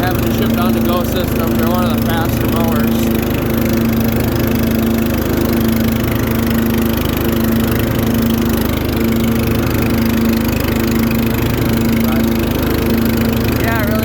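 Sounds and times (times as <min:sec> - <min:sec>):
lawnmower engine running: 0:00.0 - 0:14.0.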